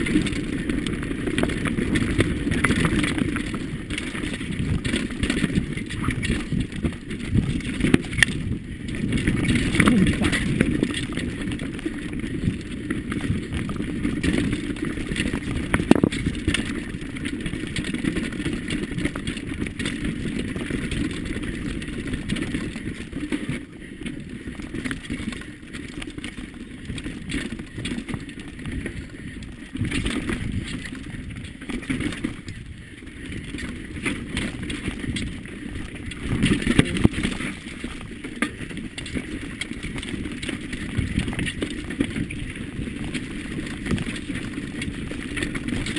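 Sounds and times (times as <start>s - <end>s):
bike clattering and rattling: 0.0s - 45.9s
tyres rumbling over stones: 0.0s - 45.9s.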